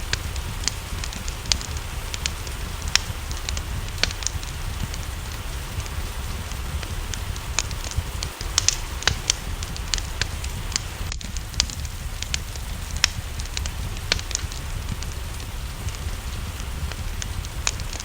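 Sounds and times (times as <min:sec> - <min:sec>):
low rumble: 0:00.0 - 0:18.0
steady rain: 0:00.0 - 0:18.0
wood fire crackling: 0:00.0 - 0:18.0.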